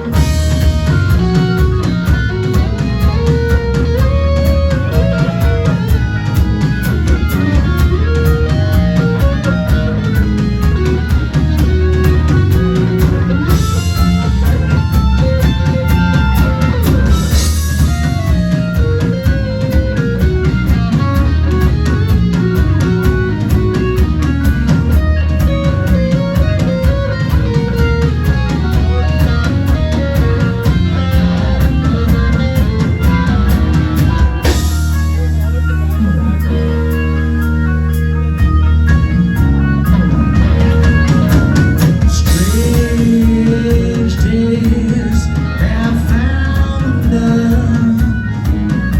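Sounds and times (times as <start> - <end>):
bass guitar: 0.0 - 48.9
drums: 0.0 - 48.9
electric guitar lead: 0.0 - 48.9.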